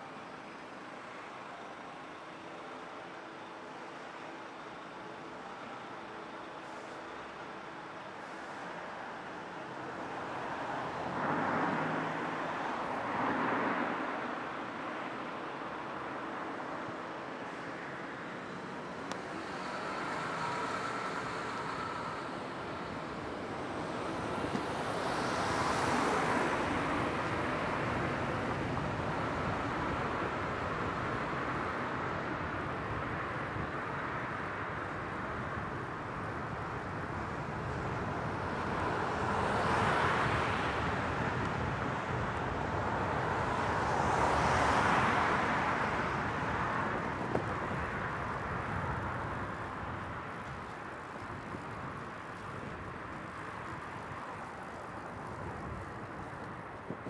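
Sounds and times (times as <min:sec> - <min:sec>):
road hum: 0:00.0 - 0:57.0
cars passing: 0:06.5 - 0:57.0.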